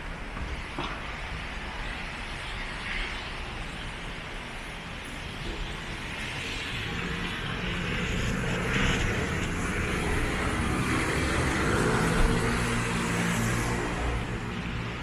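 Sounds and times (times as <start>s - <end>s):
rain hiss on wet road: 0.0s - 15.0s.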